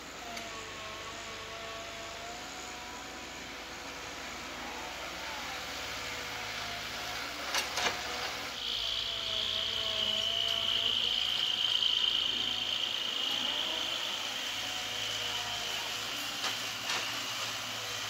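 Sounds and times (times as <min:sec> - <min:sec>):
diesel engine running: 0:00.0 - 0:18.0
steady high-pitched whine: 0:00.0 - 0:18.0
wavering hydraulic whine: 0:00.0 - 0:18.0.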